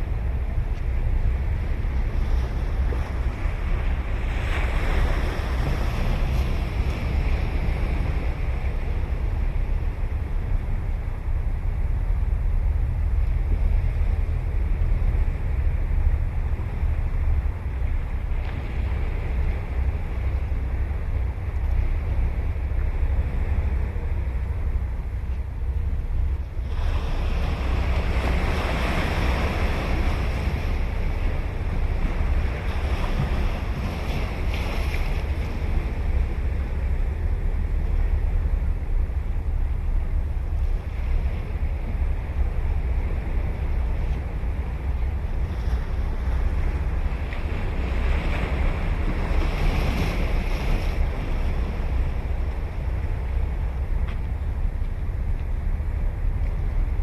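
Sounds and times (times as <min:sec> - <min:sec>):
waves breaking on a beach: 0:00.0 - 0:57.0
wind rumble on microphone: 0:00.0 - 0:57.0.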